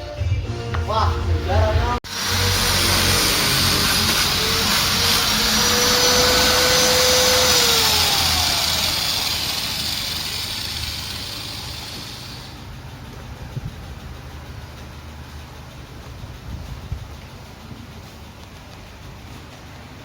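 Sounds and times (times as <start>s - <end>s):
machine rushing noise: 2.1s - 18.4s
machine whine: 2.1s - 20.0s.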